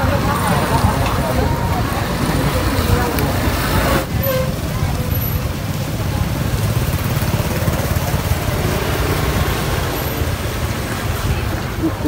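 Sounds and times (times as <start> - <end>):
motorbike engine running: 0.0 - 11.7
road noise: 0.0 - 12.0.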